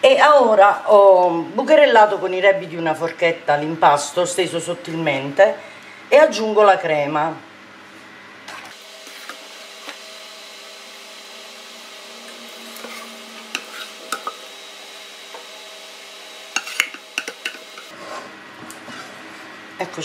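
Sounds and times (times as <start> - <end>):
kitchen hum: 0.0 - 20.0.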